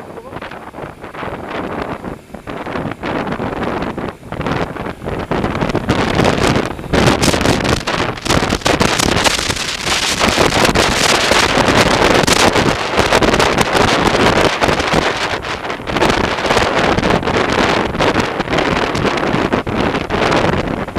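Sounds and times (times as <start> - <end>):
gusty wind on microphone: 0.0 - 20.9
road noise: 0.0 - 20.9.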